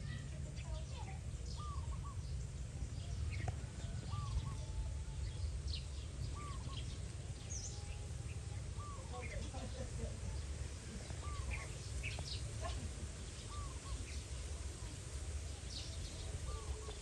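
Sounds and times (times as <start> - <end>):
birds chirping and calling: 0.0 - 17.0
steady low rumble: 0.0 - 17.0.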